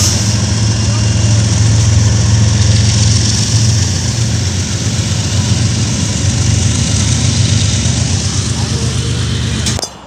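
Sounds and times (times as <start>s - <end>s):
diesel locomotive engines rumbling: 0.0s - 10.0s.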